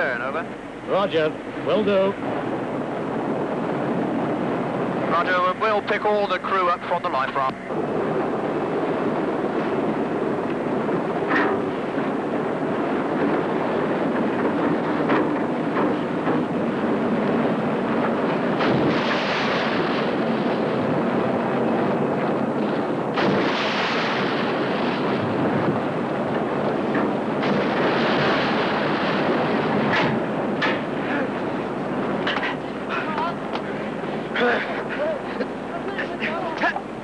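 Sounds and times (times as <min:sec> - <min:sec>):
waves breaking: 0:00.0 - 0:37.0
wind roaring: 0:00.0 - 0:37.0.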